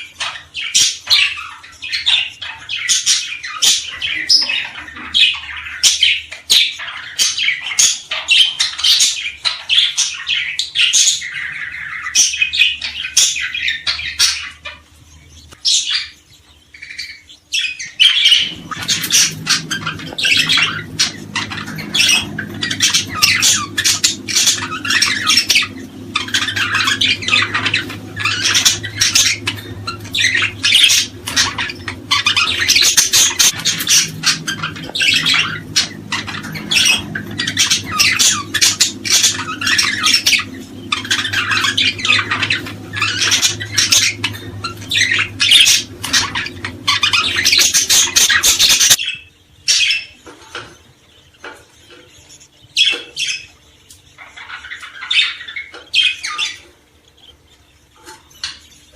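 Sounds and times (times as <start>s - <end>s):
low steady hum: 0.0s - 58.9s
small birds chirping: 0.0s - 58.9s.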